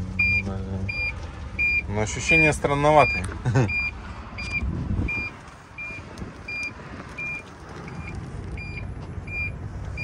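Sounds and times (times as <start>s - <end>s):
car rolling rumble: 0.0s - 10.0s
reverse warning beeper: 0.2s - 10.0s.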